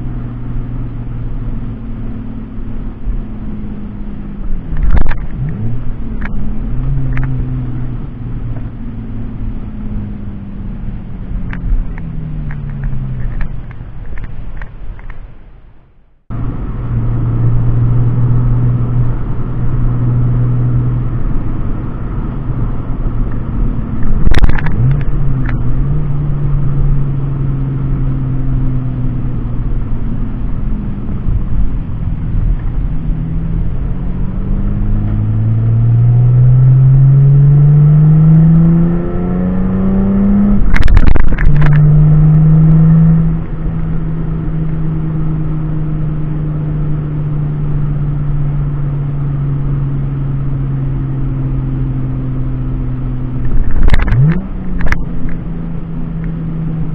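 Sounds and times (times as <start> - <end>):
car engine accelerating: 0.0 - 15.0, 16.1 - 56.9.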